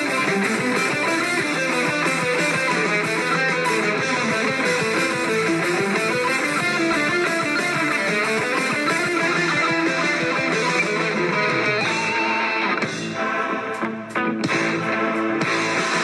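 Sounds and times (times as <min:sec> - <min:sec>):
live rock band playing: 0:00.0 - 0:16.0
strummed electric guitars: 0:00.0 - 0:16.0.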